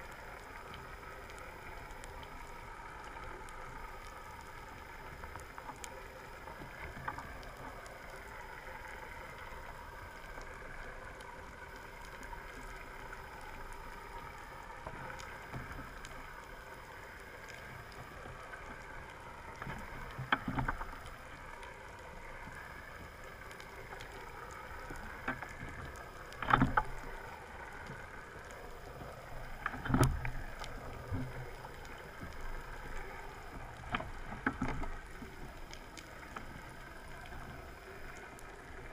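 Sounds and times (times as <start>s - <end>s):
underwater drone and hiss: 0.0s - 38.9s.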